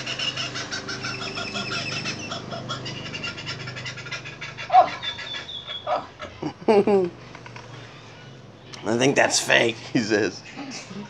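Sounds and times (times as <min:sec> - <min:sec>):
kookaburra calling: 0:00.0 - 0:11.0.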